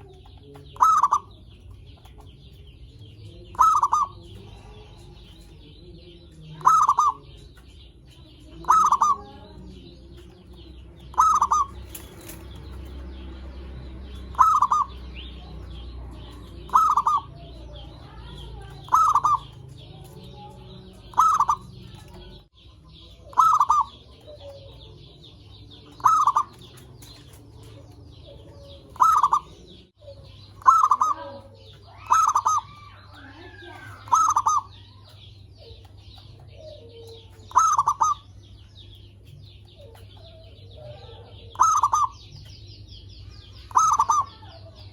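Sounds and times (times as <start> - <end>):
dove cooing: 0.0 - 1.4, 3.2 - 7.4, 8.4 - 10.0, 11.0 - 13.2, 13.8 - 22.4, 23.2 - 38.3, 39.7 - 42.5, 43.5 - 44.9.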